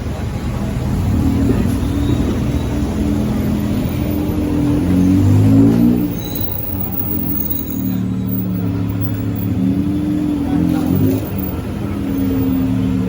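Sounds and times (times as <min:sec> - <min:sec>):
vehicle engines running: 0:00.0 - 0:13.0
vehicle engine revving: 0:00.6 - 0:13.0.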